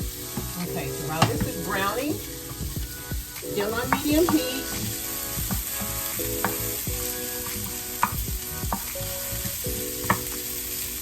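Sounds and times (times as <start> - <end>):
onions sizzling in a pan: 0.0 - 11.0
utensil tapping a pan: 0.4 - 9.0, 9.6 - 10.5.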